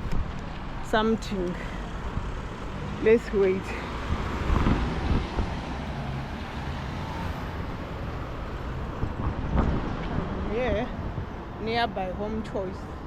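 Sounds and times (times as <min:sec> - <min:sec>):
vehicles driving past: 0:00.0 - 0:13.0.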